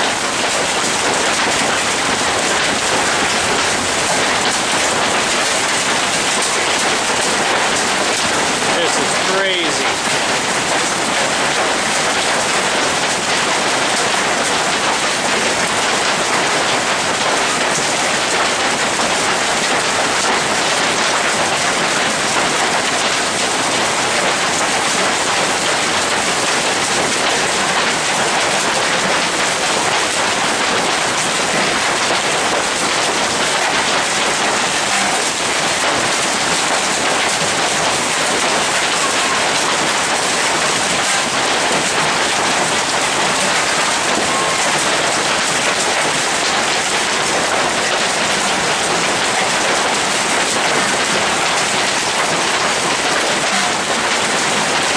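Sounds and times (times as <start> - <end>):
hail and rain pelting: 0.0 - 54.9.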